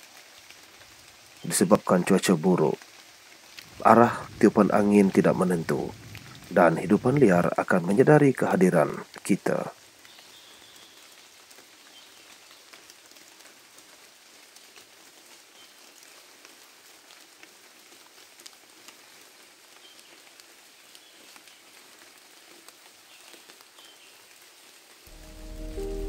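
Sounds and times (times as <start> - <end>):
light rain on leaves: 0.0 - 26.0.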